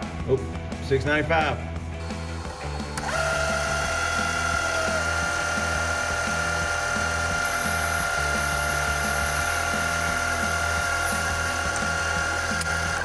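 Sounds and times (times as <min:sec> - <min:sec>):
background music with a beat: 0:00.0 - 0:13.0
metal lathe whining: 0:02.0 - 0:13.0.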